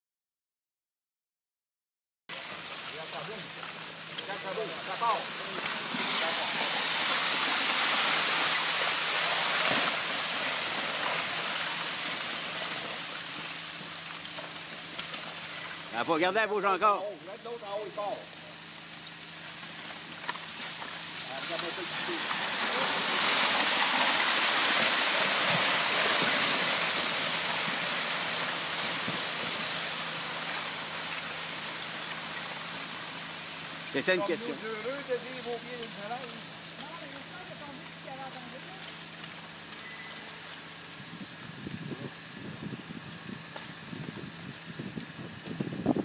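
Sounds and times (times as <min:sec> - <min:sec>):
rockslide rushing hiss: 0:02.3 - 0:46.0.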